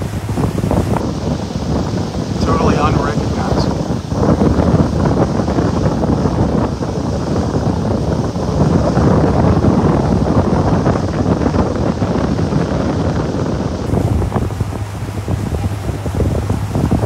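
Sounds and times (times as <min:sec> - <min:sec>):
boat running: 0:00.0 - 0:17.0
water beneath boat: 0:00.0 - 0:17.0
wind buffeting microphone: 0:00.0 - 0:17.0.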